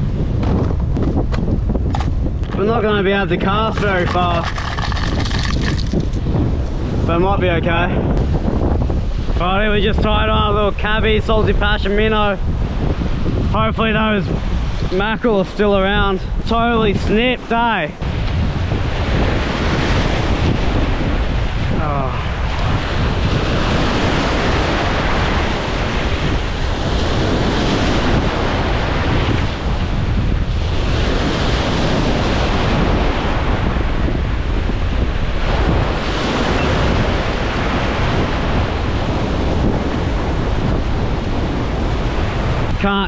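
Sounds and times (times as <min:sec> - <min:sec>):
ocean surf over rocks: 0:00.0 - 0:43.0
wind buffeting microphone: 0:00.0 - 0:43.0.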